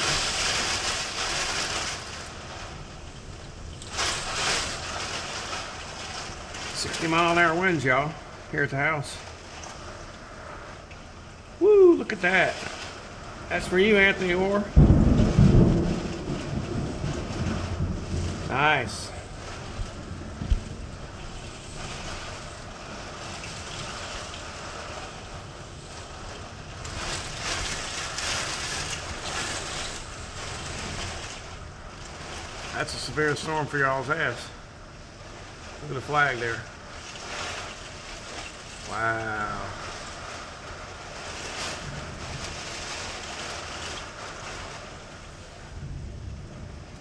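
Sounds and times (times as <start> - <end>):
driving rain: 0.0 - 47.0
storm wind gusting: 0.0 - 47.0.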